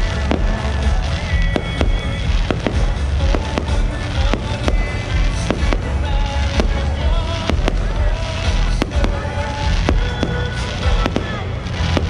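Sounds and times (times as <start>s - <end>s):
fireworks bursting with sharp cracks: 0.0s - 12.0s.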